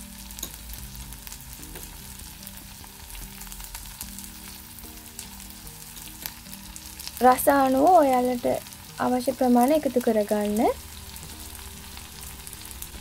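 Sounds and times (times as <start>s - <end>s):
vegetables frying in oil: 0.0s - 13.0s.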